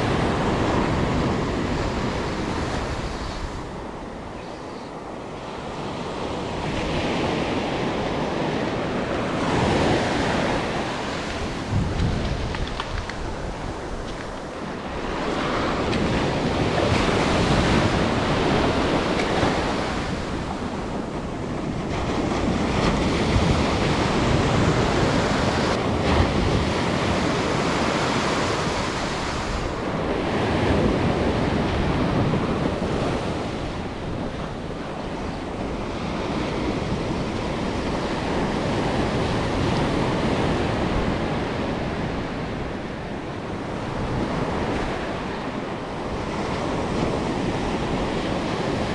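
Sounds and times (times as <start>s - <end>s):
ocean surf washing ashore: 0.0s - 48.9s
wind buffeting microphone: 0.0s - 48.9s.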